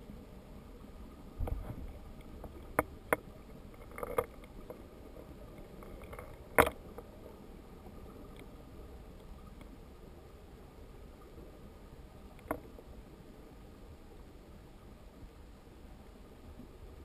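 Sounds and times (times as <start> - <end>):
underwater rush of water: 0.0 - 17.0.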